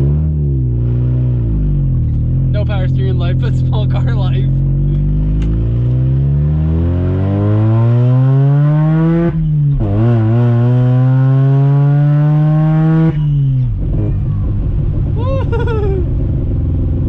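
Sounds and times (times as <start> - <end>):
rotary engine accelerating: 0.0 - 17.0.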